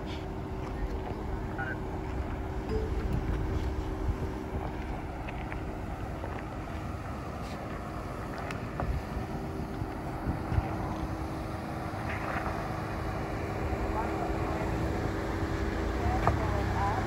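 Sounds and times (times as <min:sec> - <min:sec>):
truck engine running at low revs: 0:00.0 - 0:17.0.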